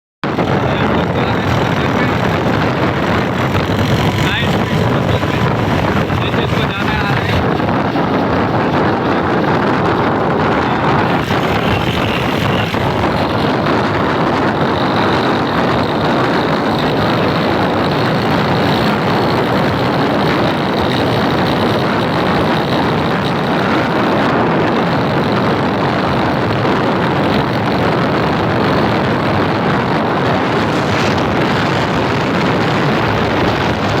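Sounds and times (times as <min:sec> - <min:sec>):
moving vehicle running noise: 0:00.2 - 0:34.0.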